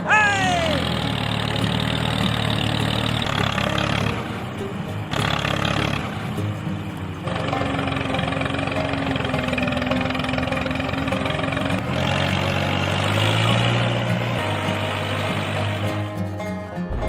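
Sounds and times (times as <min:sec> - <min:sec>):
small engine running: 0:00.0 - 0:16.6.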